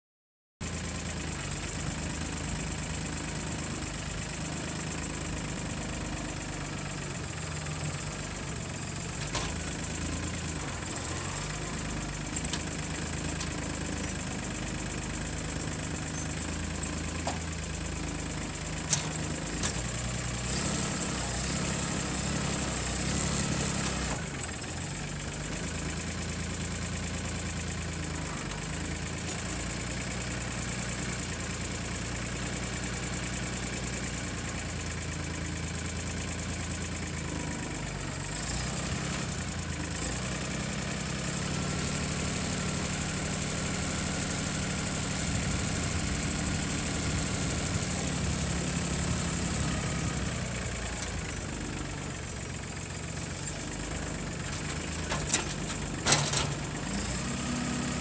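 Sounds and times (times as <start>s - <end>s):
tractor diesel engine running: 0.6s - 58.0s.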